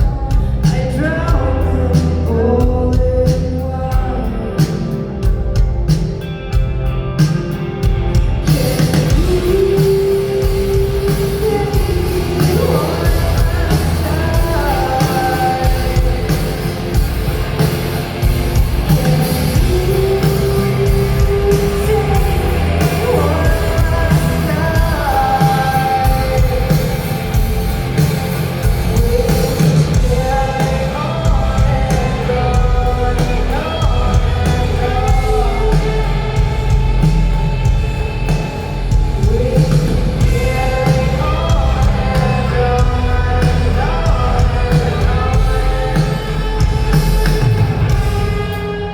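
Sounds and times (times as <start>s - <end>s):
woman singing: 0.0s - 5.7s, 8.3s - 17.5s, 18.2s - 37.6s, 38.9s - 48.4s
bass guitar: 0.0s - 48.9s
heavy drums: 0.0s - 48.9s
live rock band playing: 0.0s - 48.9s.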